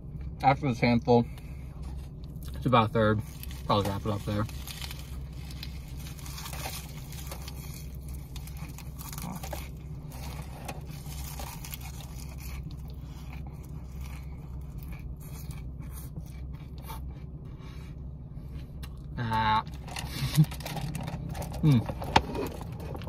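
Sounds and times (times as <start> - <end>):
low steady hum: 0.0 - 23.0
chewing crunchy leafy greens: 1.3 - 23.0.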